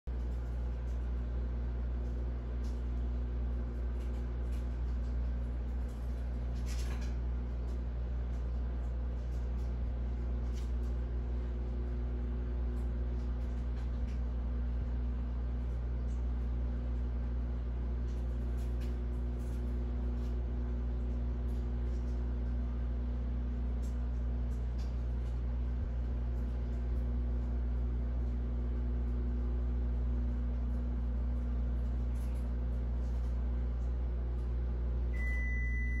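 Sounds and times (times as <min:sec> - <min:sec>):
low mechanical hum: 0:00.1 - 0:36.0.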